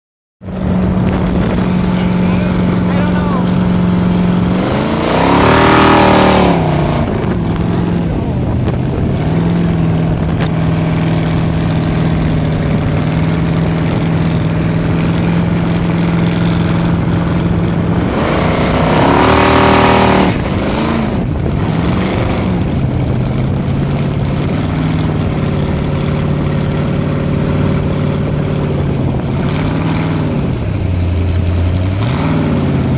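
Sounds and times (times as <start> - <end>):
boat engine running hard: 0.4 - 32.9
rush of wind and water spray: 0.4 - 32.9.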